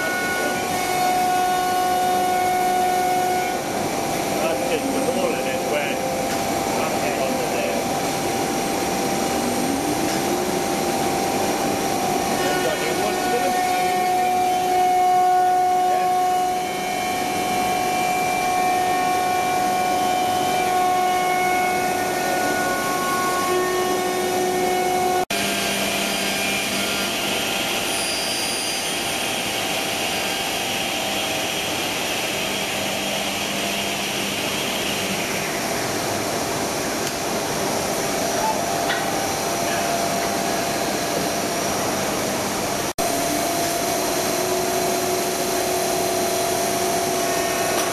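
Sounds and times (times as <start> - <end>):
router machine whine: 0.0 - 47.9.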